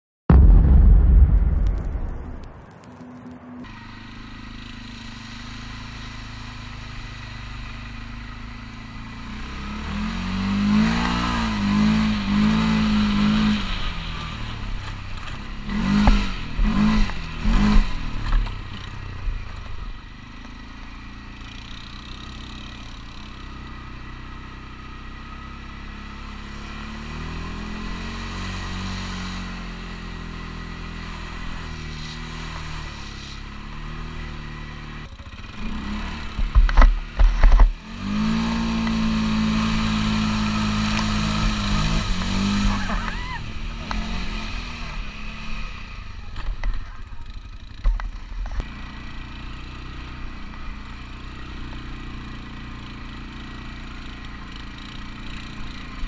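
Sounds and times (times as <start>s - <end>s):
atv engine revving: 3.7s - 56.0s.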